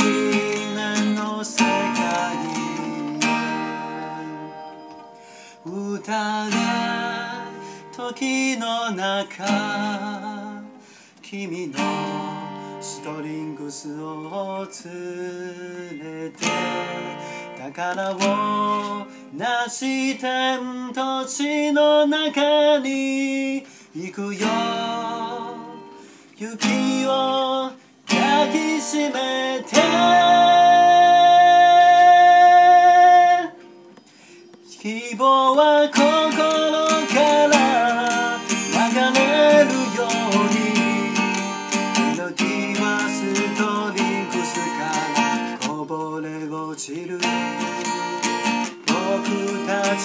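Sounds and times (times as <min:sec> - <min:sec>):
man singing: 0:00.0 - 0:33.6, 0:34.6 - 0:50.0
strummed acoustic guitar: 0:00.0 - 0:50.0.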